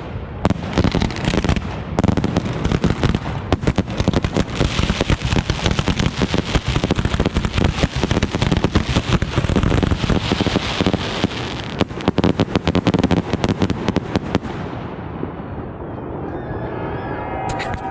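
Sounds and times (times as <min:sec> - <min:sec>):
fireworks cracks and bangs: 0:00.0 - 0:15.0.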